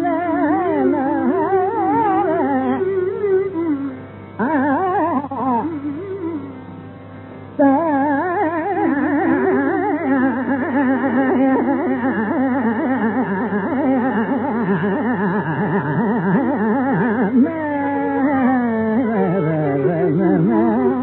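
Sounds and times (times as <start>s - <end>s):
person singing classical melody: 0.0s - 21.0s
violin melody: 0.0s - 21.0s.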